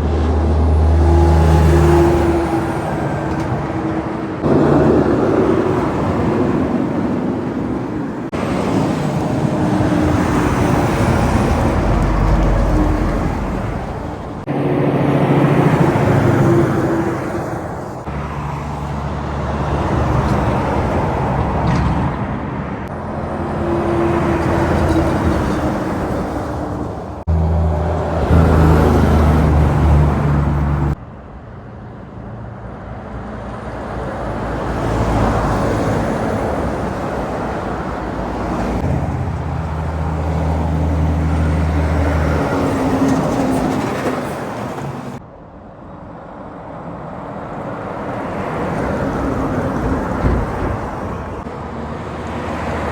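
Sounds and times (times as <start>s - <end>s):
diesel trucks driving past: 0.0s - 52.9s
tyre and road noise: 0.0s - 52.9s.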